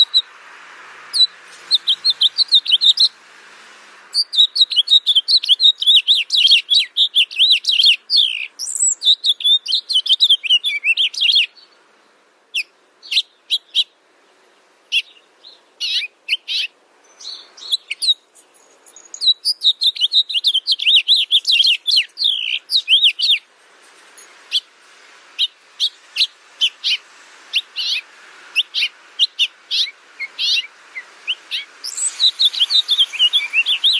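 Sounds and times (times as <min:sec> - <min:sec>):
songbird chirping in trills: 0:00.0 - 0:03.2, 0:04.1 - 0:33.9
faint background hiss: 0:00.0 - 0:33.9.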